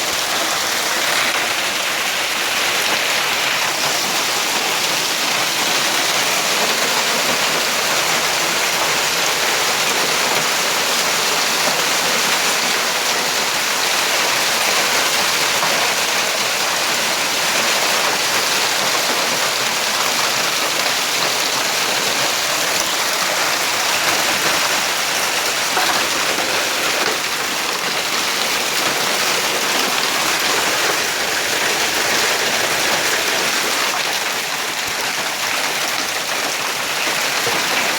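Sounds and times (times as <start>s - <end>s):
hail and rain pelting down: 0.0s - 37.9s.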